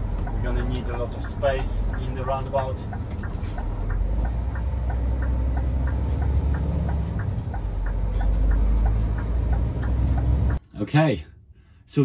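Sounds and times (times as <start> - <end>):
diesel engine running: 0.0 - 10.6
turn signal ticking: 0.0 - 10.6.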